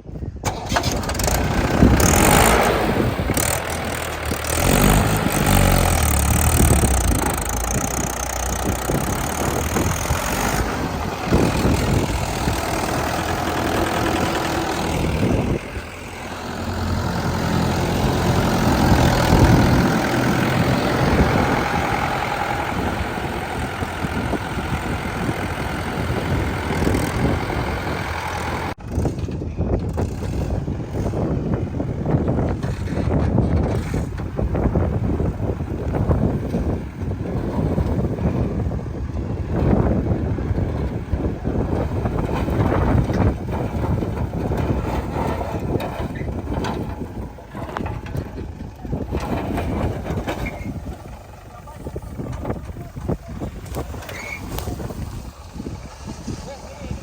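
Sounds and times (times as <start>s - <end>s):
diesel engine revving: 0.3s - 57.0s.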